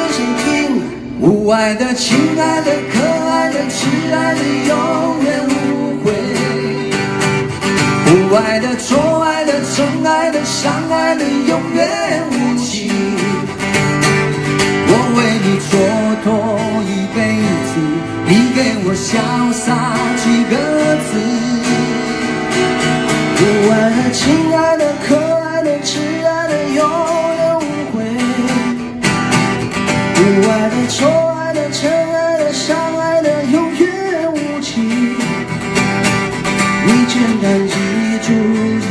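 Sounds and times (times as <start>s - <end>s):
man singing: 0.0s - 13.6s, 14.7s - 29.0s, 30.0s - 35.6s, 36.7s - 38.9s
acoustic guitars playing: 0.0s - 38.9s.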